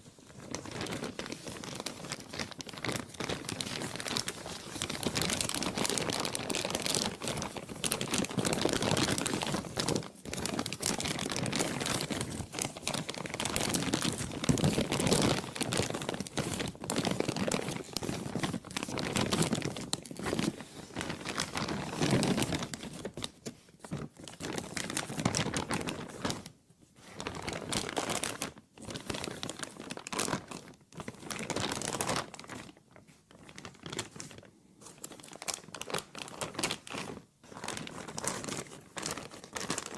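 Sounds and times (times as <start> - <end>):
plastic crumpling: 0.0 - 39.9.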